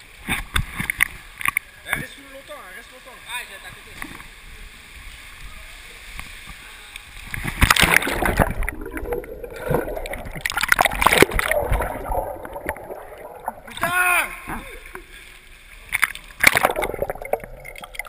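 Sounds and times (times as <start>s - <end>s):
pool water splashing: 0.0s - 18.0s.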